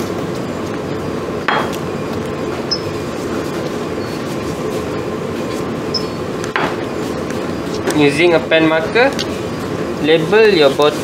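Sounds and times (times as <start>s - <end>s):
ventilation rumble: 0.0s - 11.0s.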